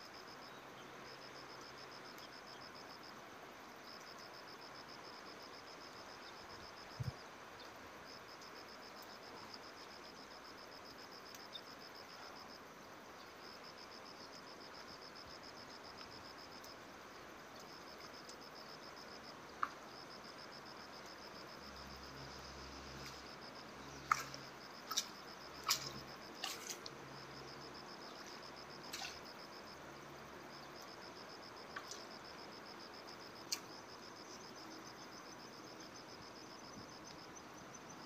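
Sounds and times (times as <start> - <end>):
faint hiss: 0.0 - 38.0.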